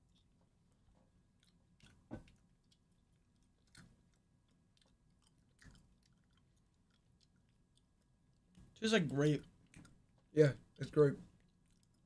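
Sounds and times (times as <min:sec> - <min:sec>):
faint chewing of candy: 0:00.0 - 0:12.0.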